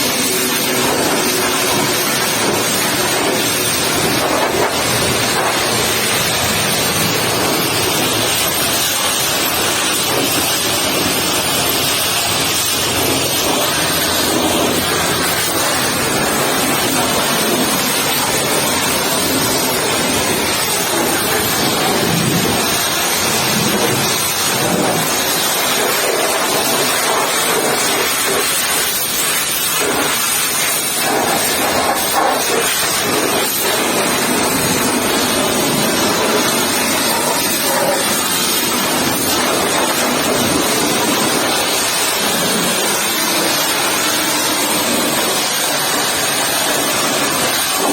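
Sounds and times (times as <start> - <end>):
pressure washer spraying water: 0.0 - 47.9.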